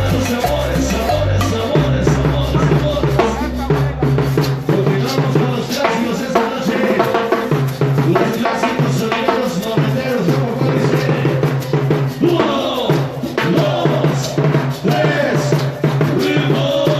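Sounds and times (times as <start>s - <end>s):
drums and percussion: 0.0s - 16.9s
live band playing dance music: 0.0s - 16.9s.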